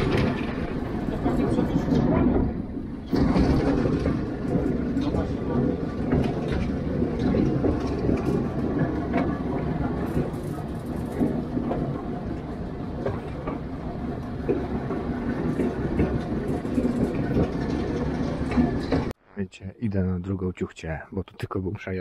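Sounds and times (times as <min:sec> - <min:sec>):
train wheels rumbling on rail: 0:00.0 - 0:19.2.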